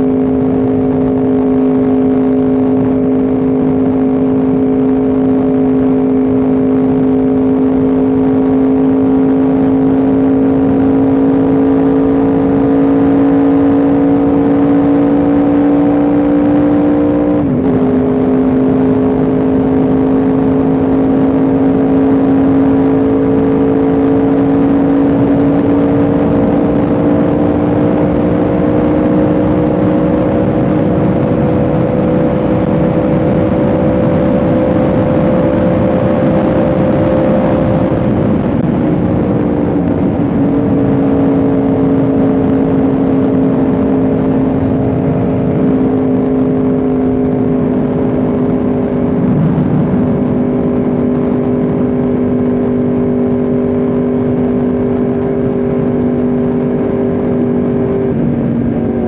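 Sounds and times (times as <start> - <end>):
motorcycle engine pulling steadily: 0.0 - 59.0.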